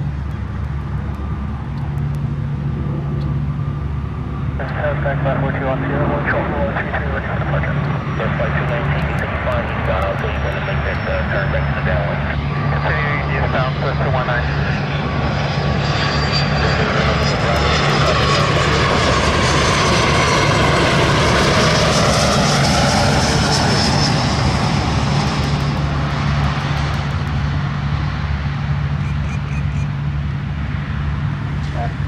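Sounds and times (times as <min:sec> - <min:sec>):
jet landing roar with whine: 0:00.0 - 0:32.0.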